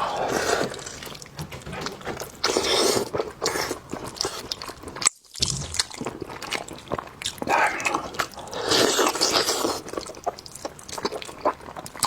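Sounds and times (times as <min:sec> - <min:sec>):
person chewing with wet smacking: 0:00.0 - 0:12.0.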